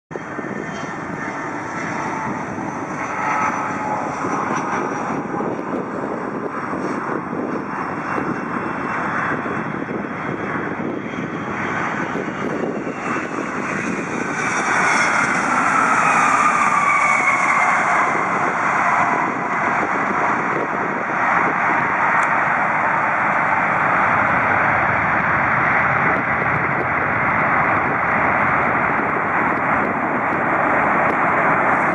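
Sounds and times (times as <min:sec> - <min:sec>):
jet engines roaring: 0:00.1 - 0:31.9
jet whine gliding down: 0:00.1 - 0:31.9.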